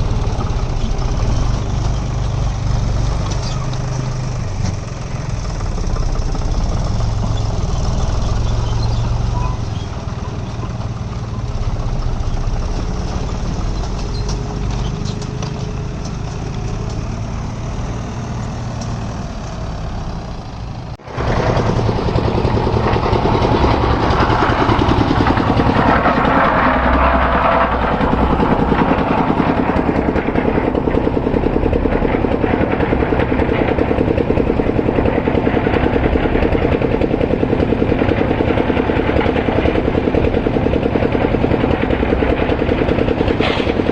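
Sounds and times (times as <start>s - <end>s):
heavy diesel engines running: 0.0s - 43.9s.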